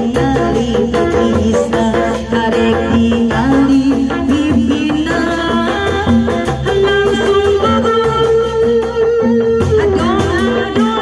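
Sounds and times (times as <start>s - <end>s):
drums steady beat: 0.0s - 11.0s.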